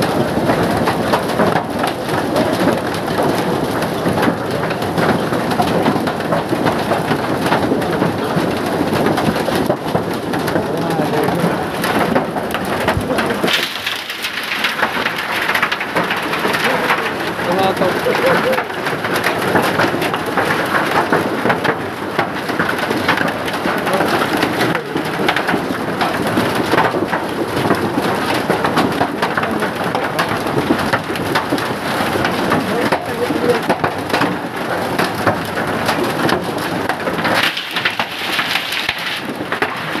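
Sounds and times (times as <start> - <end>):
heavy rain on hard surfaces: 0.0 - 40.0.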